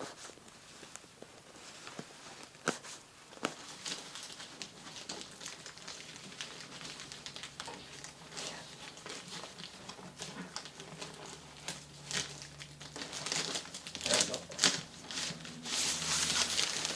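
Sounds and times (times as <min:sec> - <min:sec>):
sheet material crinkling: 0:00.0 - 0:16.9.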